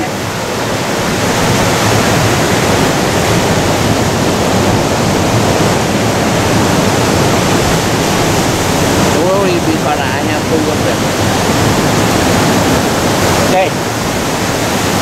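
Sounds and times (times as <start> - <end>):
ocean surf breaking over rocks: 0.0 - 15.0.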